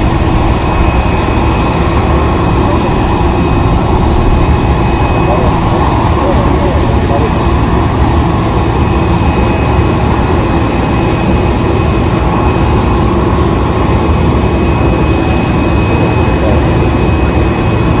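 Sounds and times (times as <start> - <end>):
high whine: 0.0 - 18.0
jet turbine drone: 0.0 - 18.0.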